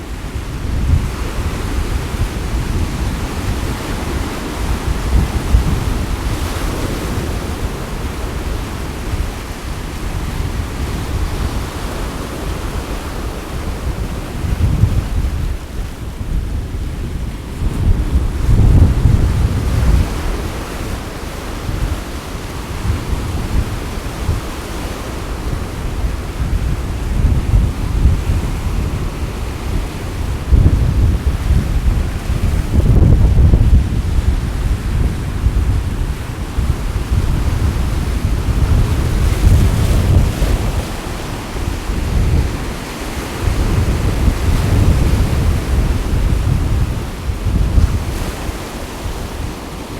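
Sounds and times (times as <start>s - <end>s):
sea waves washing on shore: 0.0s - 49.9s
surf rushing: 0.0s - 49.9s
wind buffeting microphone: 0.0s - 49.9s.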